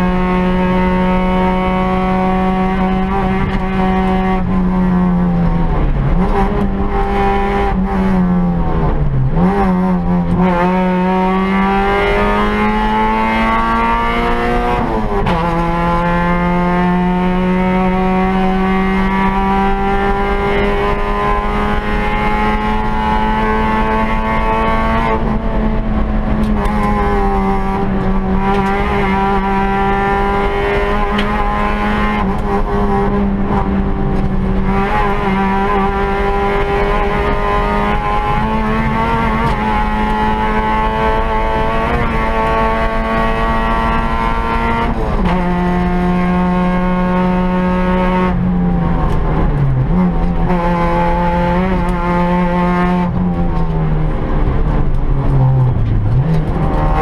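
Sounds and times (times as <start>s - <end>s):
rally car engine at full throttle: 0.0s - 57.0s.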